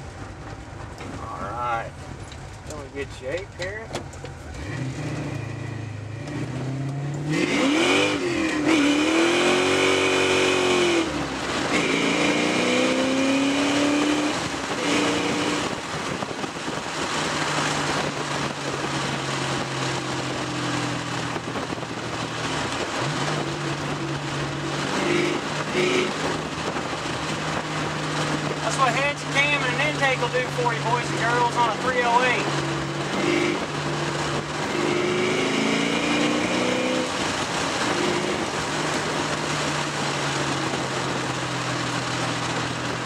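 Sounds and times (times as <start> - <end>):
car engine accelerating hard: 0.0 - 43.0.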